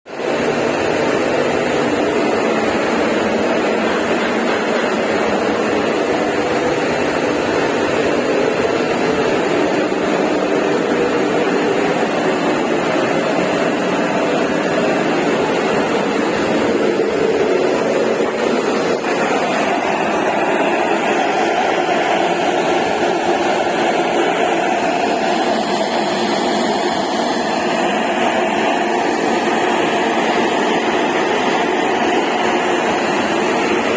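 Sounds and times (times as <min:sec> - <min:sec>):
boiler burner and blower noise: 0:00.1 - 0:33.9.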